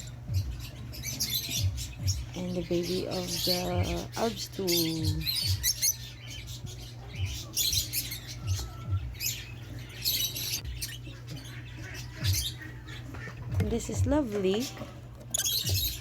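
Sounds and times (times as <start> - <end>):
birds chirping and squawking: 0.0 - 16.0
steady low hum: 0.0 - 16.0.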